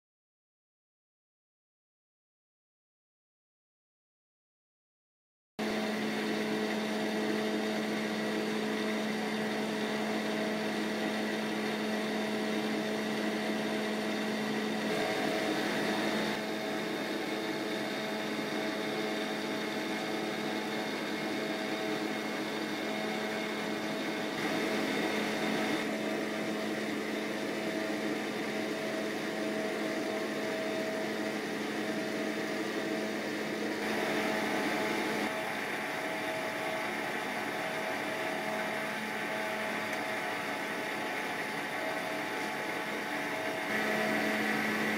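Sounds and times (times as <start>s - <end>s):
pump motor hum: 5.6s - 44.9s.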